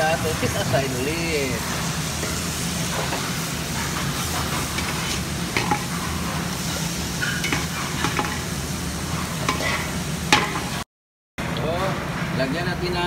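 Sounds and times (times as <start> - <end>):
hot oil sizzling in a frying pan: 0.0 - 10.9.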